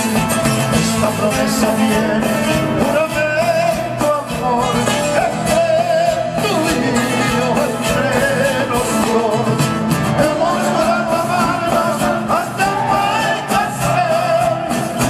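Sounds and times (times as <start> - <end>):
bass: 0.0 - 15.0
drums: 0.0 - 15.0
strummed acoustic guitars: 0.0 - 15.0
person singing: 0.7 - 15.0.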